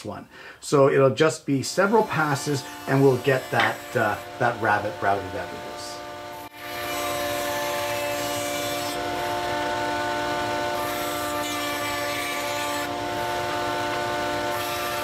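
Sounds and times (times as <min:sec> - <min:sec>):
electric router cutting wood: 0:01.7 - 0:15.0.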